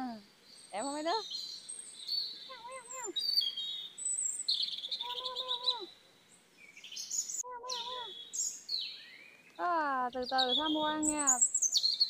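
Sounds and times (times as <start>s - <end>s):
birds chirping and trilling: 0.3s - 12.0s.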